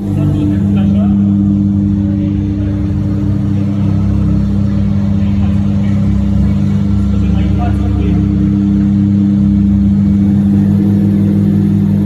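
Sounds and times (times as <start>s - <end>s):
rotary engine idling: 0.0s - 12.0s.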